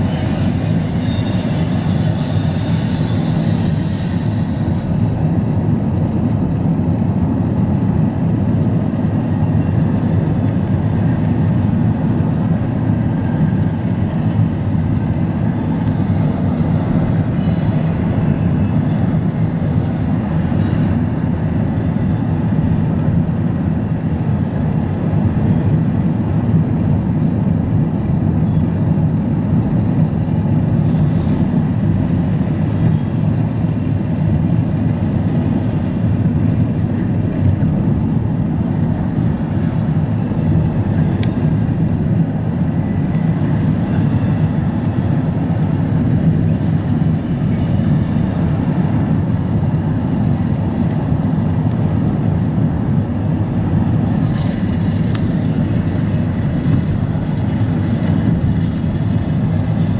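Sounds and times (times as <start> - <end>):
car road noise: 0.0 - 59.9
freight train rolling: 0.0 - 59.9.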